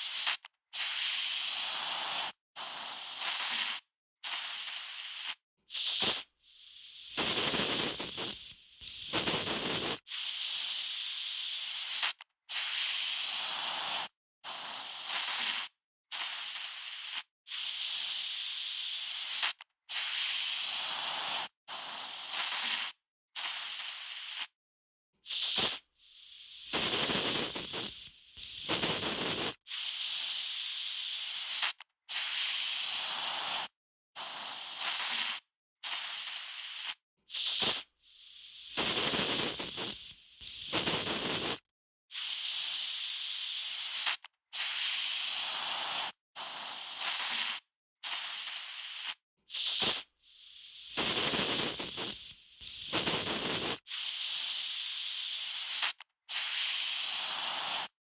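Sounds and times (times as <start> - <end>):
aerosol spray can hissing: 0.0 - 24.5, 25.2 - 58.0.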